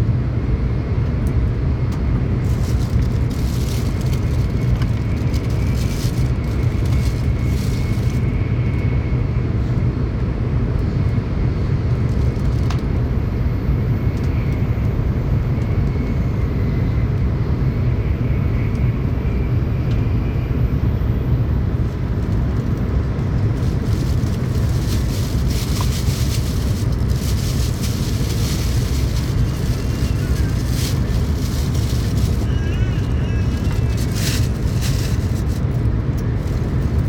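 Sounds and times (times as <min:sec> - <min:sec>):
train low rumble: 0:00.0 - 0:37.0
train running noise rush: 0:00.0 - 0:37.0.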